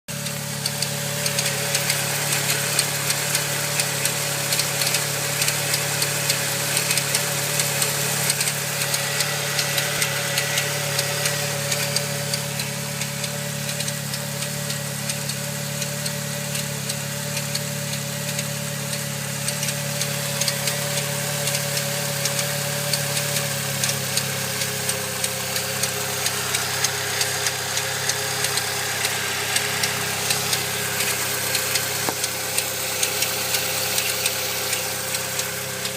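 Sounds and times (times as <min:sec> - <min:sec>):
car engine idling: 0:00.1 - 0:35.9
quick regular clicking: 0:00.2 - 0:35.9.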